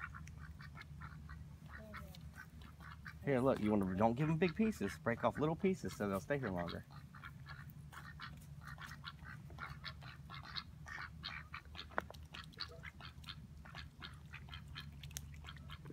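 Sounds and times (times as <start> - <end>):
ducks quacking faintly: 0.0 - 15.9.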